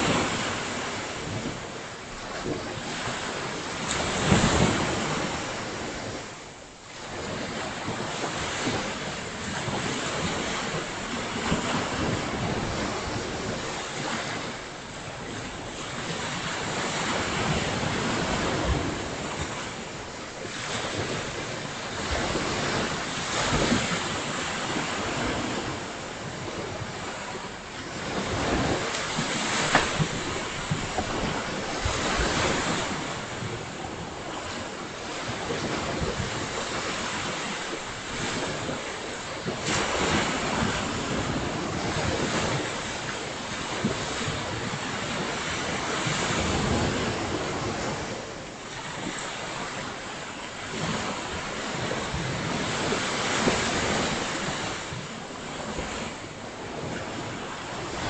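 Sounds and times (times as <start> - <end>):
surf washing onto beach: 0.0 - 58.0
wind gusting on microphone: 0.0 - 58.0.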